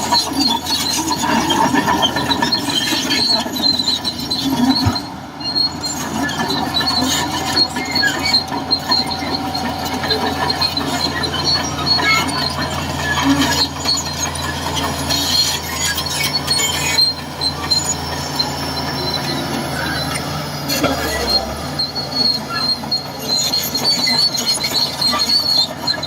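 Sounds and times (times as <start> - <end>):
diesel engine drone: 0.0 - 26.0
metallic squeal from tracks: 0.0 - 26.0.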